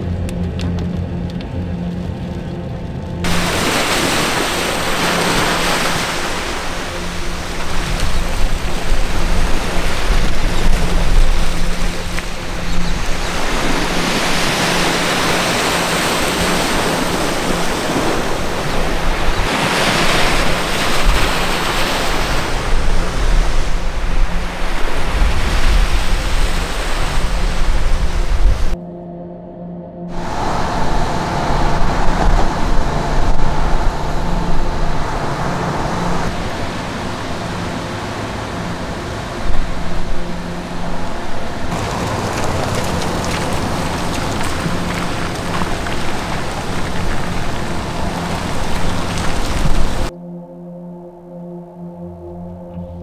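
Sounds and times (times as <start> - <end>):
wind buffeting microphone: 0.0 - 28.8, 30.1 - 50.1
surf washing onto beach: 3.2 - 28.8, 30.2 - 50.1.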